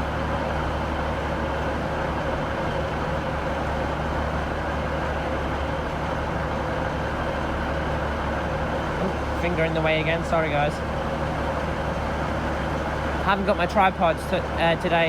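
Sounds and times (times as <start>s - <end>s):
railway traffic rumble and hum: 0.0s - 15.0s.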